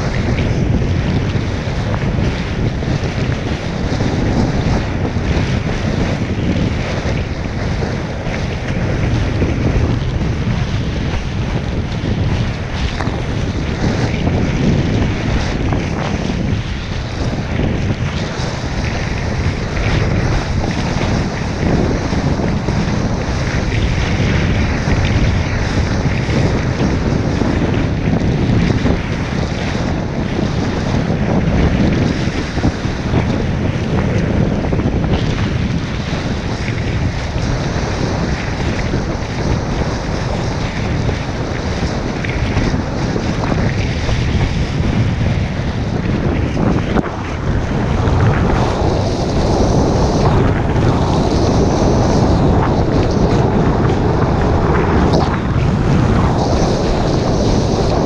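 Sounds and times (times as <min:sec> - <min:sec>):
board splashing through water: 0:00.0 - 0:58.0
wind buffeting microphone: 0:00.0 - 0:58.0.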